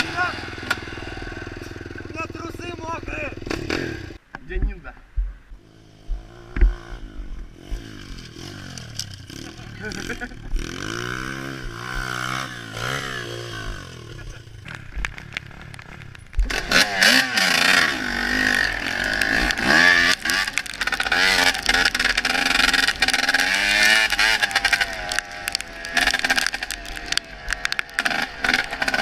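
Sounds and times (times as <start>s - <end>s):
motocross bike engine revving: 0.0s - 4.2s, 5.6s - 29.0s.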